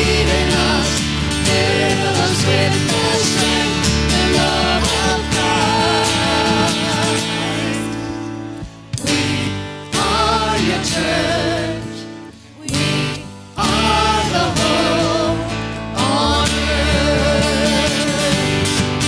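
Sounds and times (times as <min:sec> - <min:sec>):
voices singing long notes: 0:00.0 - 0:08.4, 0:09.0 - 0:12.0, 0:12.6 - 0:18.6
worship band music: 0:00.0 - 0:19.0.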